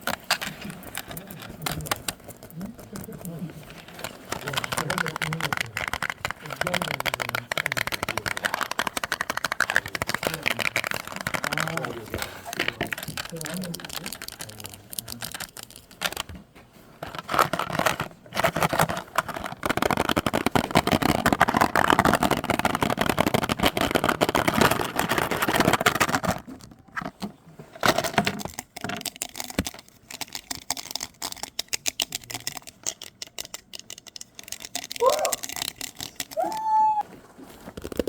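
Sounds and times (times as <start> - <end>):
clicks and taps: 0.0 - 16.4, 17.0 - 27.2, 27.8 - 36.8
scratching handling noise: 0.0 - 38.0.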